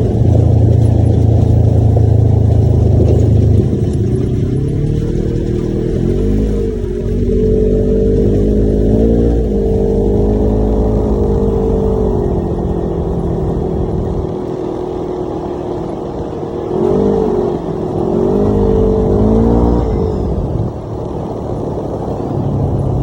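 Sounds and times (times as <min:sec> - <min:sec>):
utility vehicle engine revving: 0:00.0 - 0:23.0.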